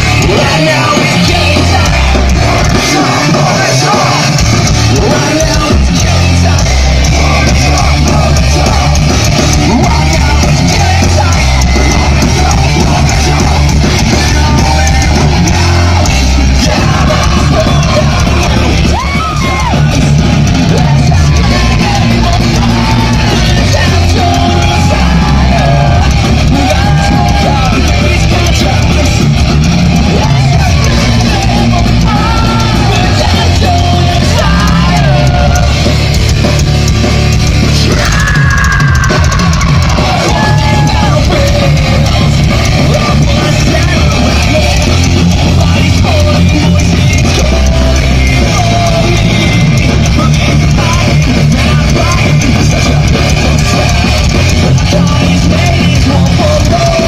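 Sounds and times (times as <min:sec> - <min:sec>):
distorted electric guitars: 0:00.0 - 0:57.0
drums: 0:00.0 - 0:57.0
sung and shouted vocals: 0:00.0 - 0:57.0.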